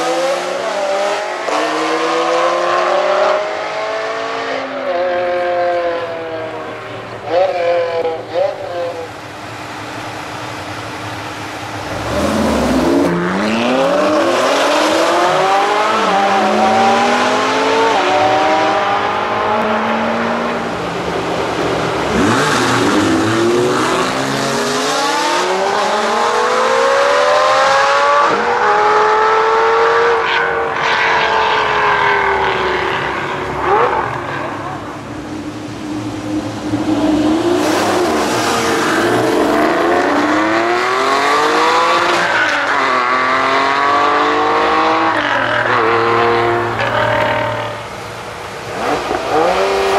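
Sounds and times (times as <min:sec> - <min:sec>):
sports car engines accelerating: 0:00.0 - 0:49.9.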